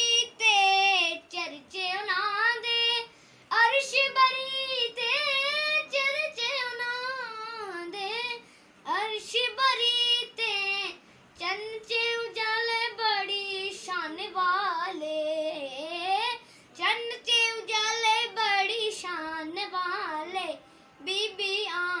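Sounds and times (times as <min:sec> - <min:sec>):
boy singing: 0:00.0 - 0:22.0.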